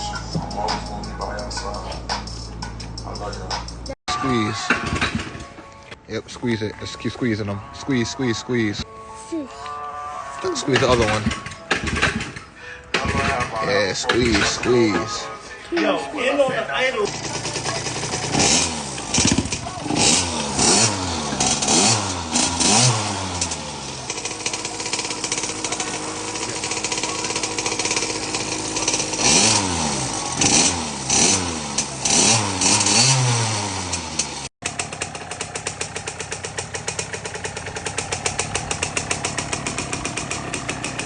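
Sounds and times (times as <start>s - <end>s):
two-stroke engine revving and idling: 0.0s - 5.6s, 10.5s - 15.2s, 16.9s - 41.0s.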